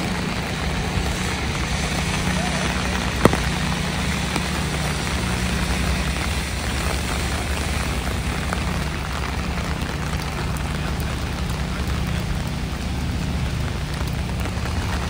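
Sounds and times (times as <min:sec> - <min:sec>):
low engine drone: 0:00.0 - 0:15.0
rain falling: 0:00.0 - 0:15.0.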